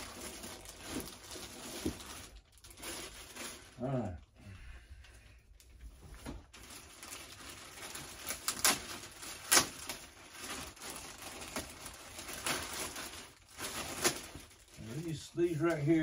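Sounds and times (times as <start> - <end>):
plastic packaging crinkling: 0.0 - 4.3, 6.2 - 16.0.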